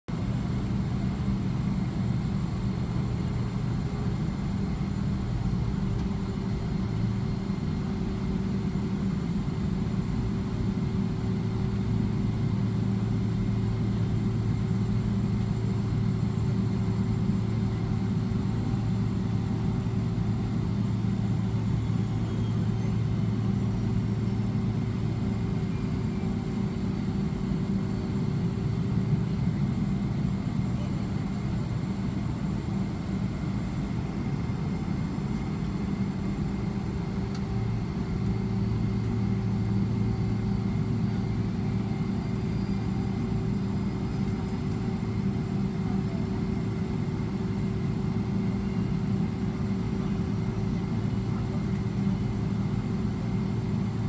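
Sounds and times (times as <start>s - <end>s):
jet engines humming at idle: 0.1s - 54.0s.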